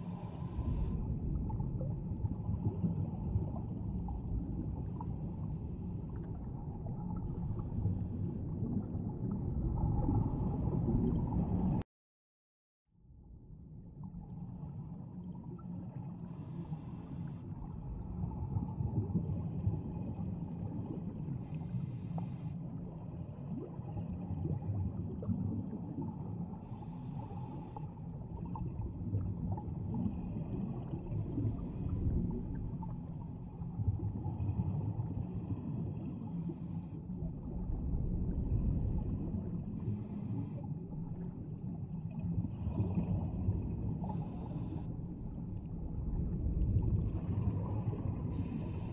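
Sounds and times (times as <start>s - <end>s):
underwater bubbles gurgling: 0.0s - 11.8s, 13.9s - 48.9s.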